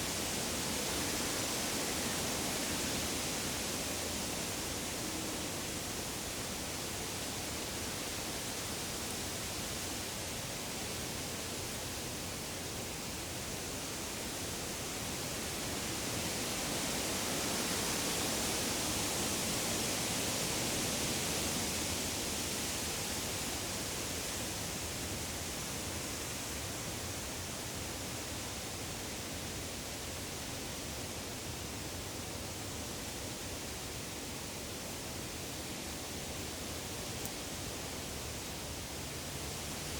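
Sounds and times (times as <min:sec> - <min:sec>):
wind rustling leaves: 0:00.0 - 0:39.9.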